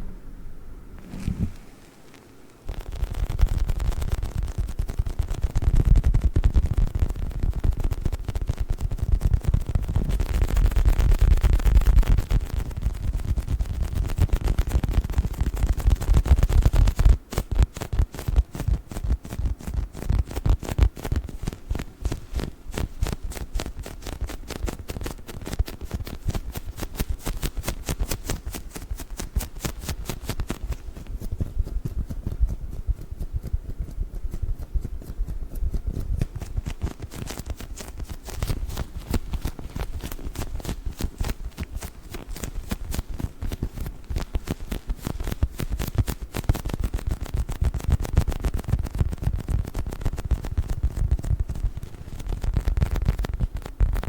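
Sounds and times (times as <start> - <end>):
squishy toy squeezed and tapped: 2.7 - 54.0.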